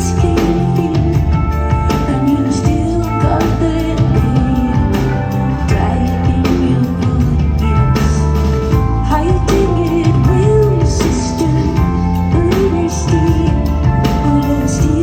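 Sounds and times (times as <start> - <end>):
live rock band playing: 0.0 - 15.0
woman singing: 0.0 - 15.0.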